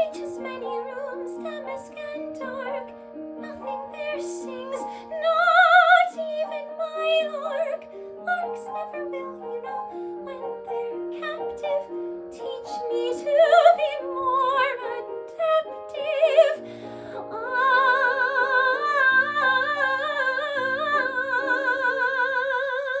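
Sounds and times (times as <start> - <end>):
piano accompaniment: 0.0 - 23.0
woman singing operatically: 0.0 - 23.0.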